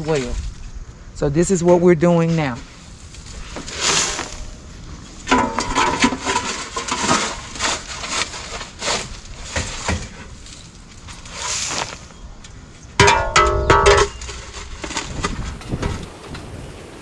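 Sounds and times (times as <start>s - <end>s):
bedding scraped and dumped: 2.2s - 12.3s, 13.0s - 17.0s.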